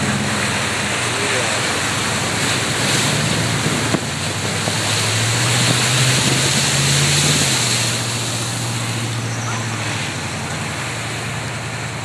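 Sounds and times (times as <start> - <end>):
rushing water: 0.0 - 12.0
vehicle engine hum: 0.0 - 12.0.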